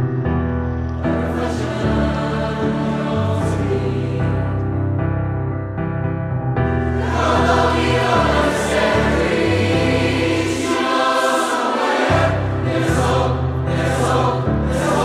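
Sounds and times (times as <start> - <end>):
choir singing in harmony: 1.0 - 5.2, 6.6 - 15.0.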